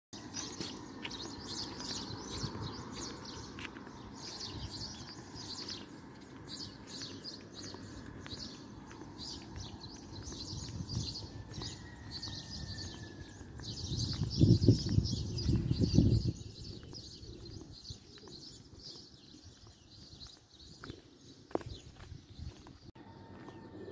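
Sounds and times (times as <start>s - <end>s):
small birds chirping: 0.2s - 23.9s.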